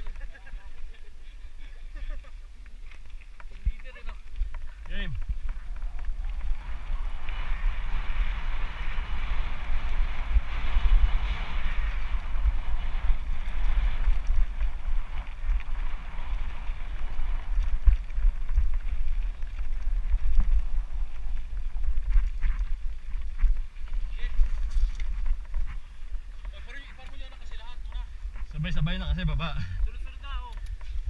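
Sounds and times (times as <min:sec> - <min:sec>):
bike tyres rolling hiss: 0:00.0 - 0:31.0
wind buffeting microphone: 0:00.0 - 0:31.0.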